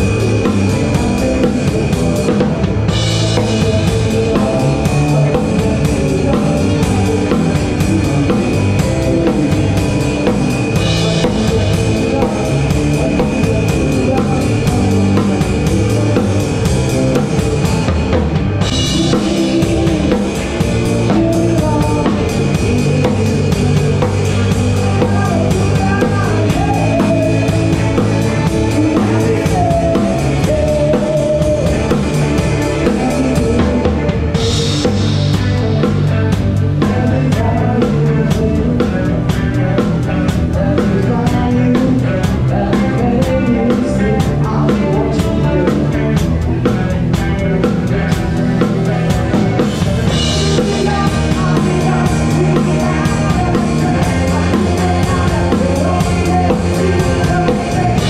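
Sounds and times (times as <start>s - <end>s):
live band playing: 0.0s - 58.0s
rock drum groove: 0.0s - 58.0s.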